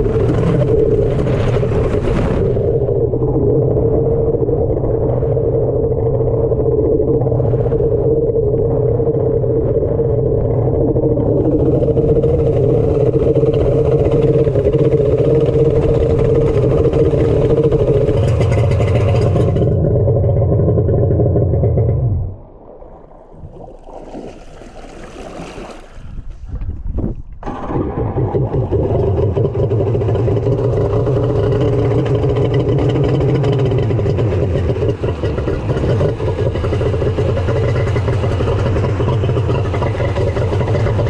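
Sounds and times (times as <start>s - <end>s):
jet ski engine running: 0.0s - 22.3s, 27.4s - 41.0s.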